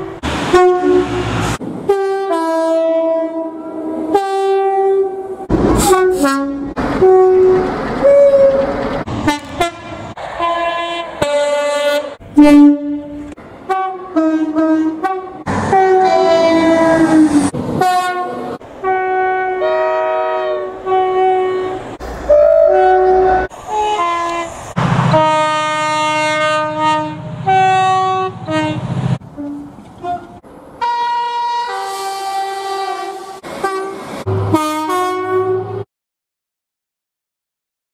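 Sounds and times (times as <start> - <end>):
two-tone train horn blasts: 0.0 - 1.3, 1.9 - 35.9.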